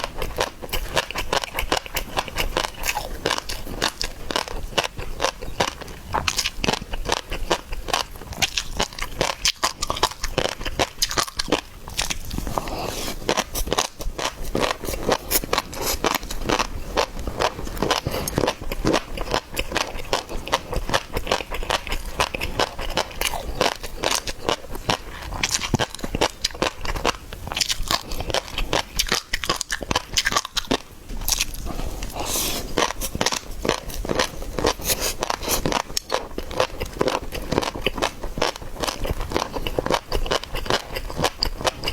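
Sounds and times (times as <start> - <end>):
close-miked chewing and crunching: 0.0 - 41.9.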